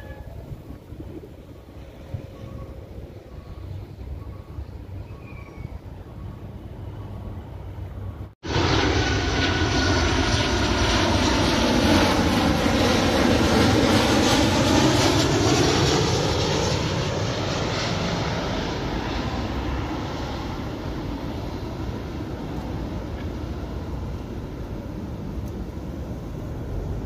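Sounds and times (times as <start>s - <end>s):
jet engines passing overhead: 0.0s - 27.0s.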